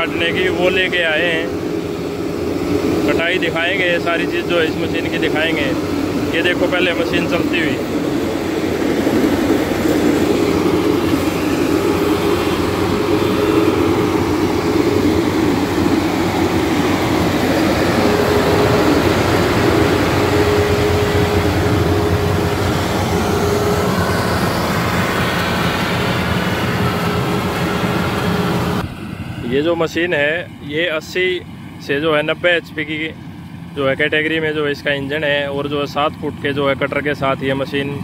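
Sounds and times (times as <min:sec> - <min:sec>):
combine harvester drone: 0:00.0 - 0:38.0
steady mechanical whine: 0:00.0 - 0:38.0.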